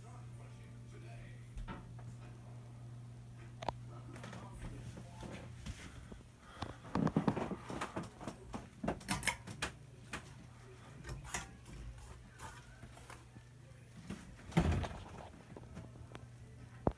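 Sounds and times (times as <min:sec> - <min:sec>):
ceiling fan motor humming: 0:00.0 - 0:16.9.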